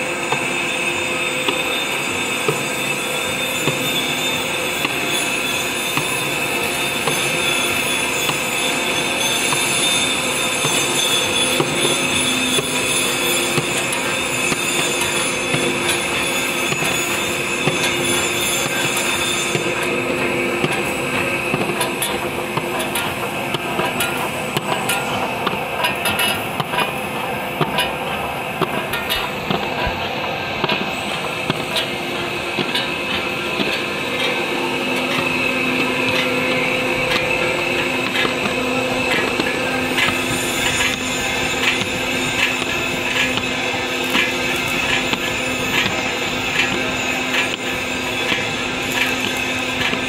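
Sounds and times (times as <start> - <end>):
steady high whine: 0.0 - 50.0.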